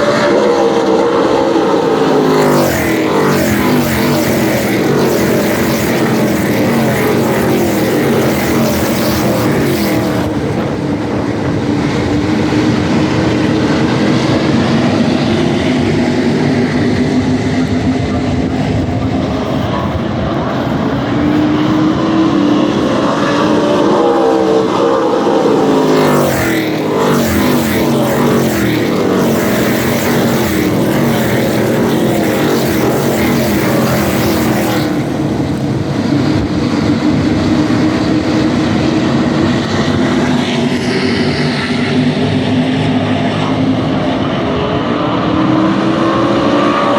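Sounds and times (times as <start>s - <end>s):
race truck engines passing: 0.0s - 46.9s.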